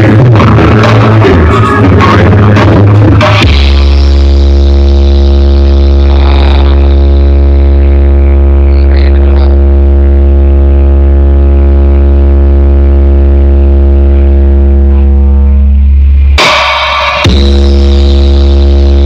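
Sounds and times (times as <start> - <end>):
deep bass music drone: 0.0 - 19.0.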